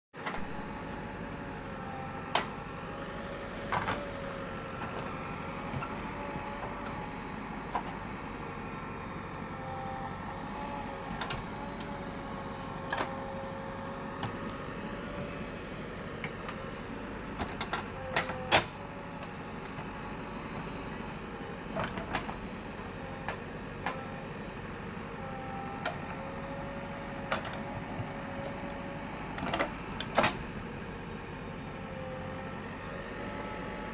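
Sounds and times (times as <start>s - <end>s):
backhoe loader running: 0.2s - 33.9s.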